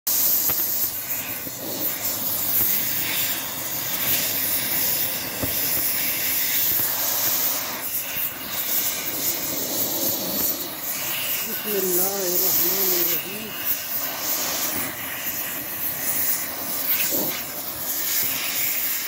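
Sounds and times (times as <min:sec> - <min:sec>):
welding arc hissing: 0:00.0 - 0:19.0.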